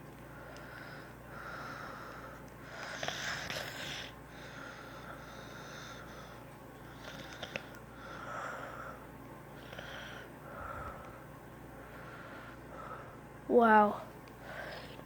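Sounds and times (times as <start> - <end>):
breathing and sniffing: 0.3 - 13.3, 14.4 - 15.0.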